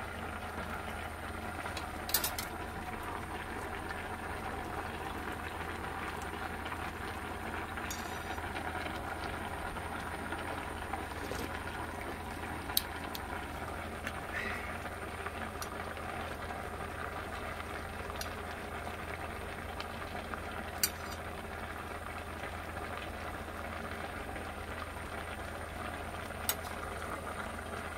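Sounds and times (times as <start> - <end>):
stew bubbling in a pot: 0.0 - 27.9.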